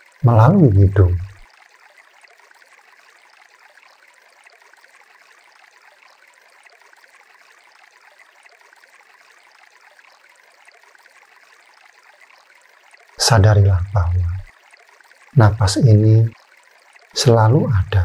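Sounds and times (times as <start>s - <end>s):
water trickling: 0.0s - 18.0s.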